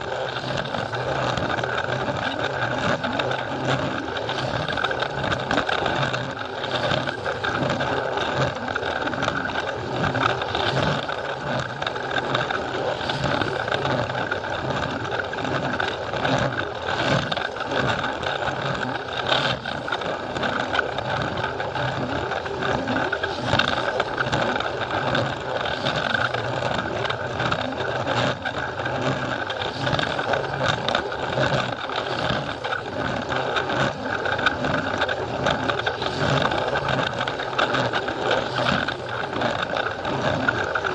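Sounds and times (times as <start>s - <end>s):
toy train motor whine: 0.0s - 40.9s
wheels clattering over track joints: 0.0s - 40.9s.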